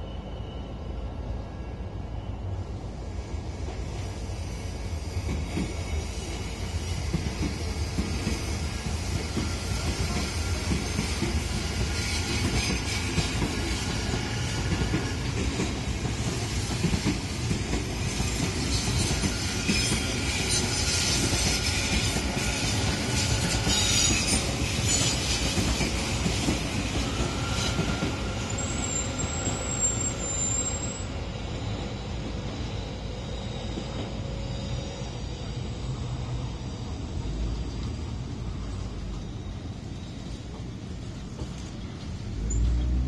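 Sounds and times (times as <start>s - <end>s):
train wheels rumbling on rail: 0.0s - 43.0s
train wheels squealing: 0.0s - 43.0s.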